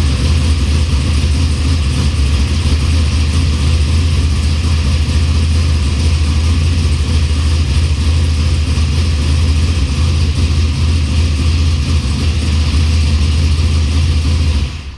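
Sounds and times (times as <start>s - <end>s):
v eight engine running: 0.0s - 14.9s.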